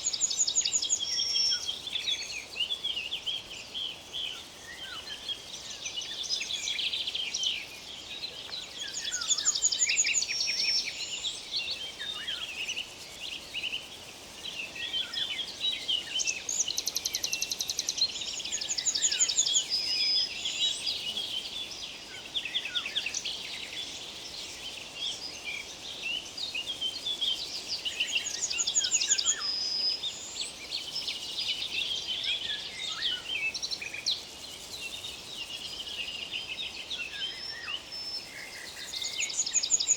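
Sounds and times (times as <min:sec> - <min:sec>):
faint background noise: 0:00.0 - 0:39.9
songbirds singing: 0:00.0 - 0:39.9.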